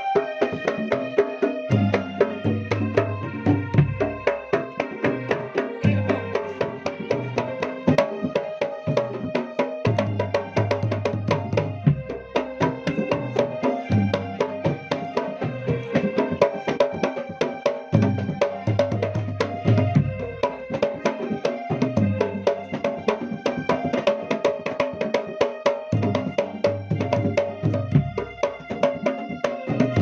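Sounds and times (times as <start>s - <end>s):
fast hand-drum strokes: 0.0s - 30.0s.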